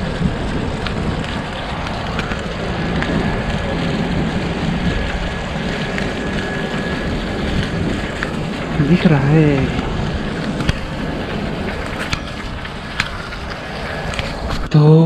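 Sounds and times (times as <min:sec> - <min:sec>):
bicycle tyres on dirt road: 0:00.0 - 0:15.0
wind on microphone: 0:00.0 - 0:15.0.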